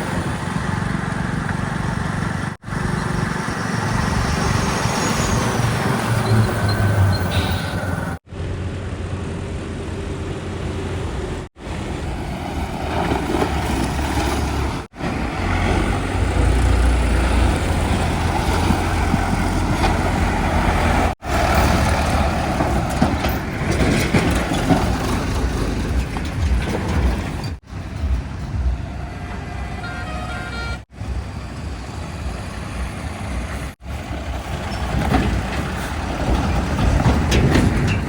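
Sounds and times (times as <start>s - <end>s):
heavy diesel engines rumbling: 0.0s - 38.0s.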